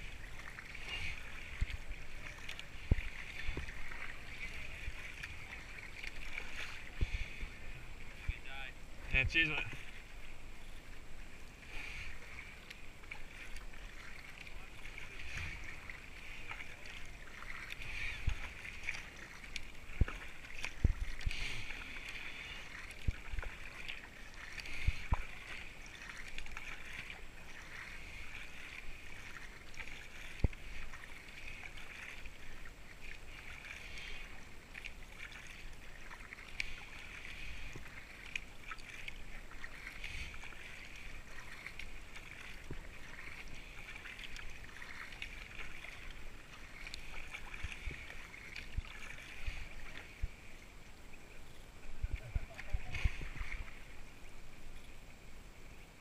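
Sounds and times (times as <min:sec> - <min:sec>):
paddle strokes: 0:00.0 - 0:56.0
water rushing along hull: 0:00.0 - 0:56.0.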